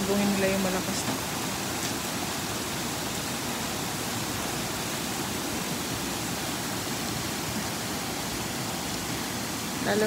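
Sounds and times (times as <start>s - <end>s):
heavy rain on pavement: 0.0s - 10.0s.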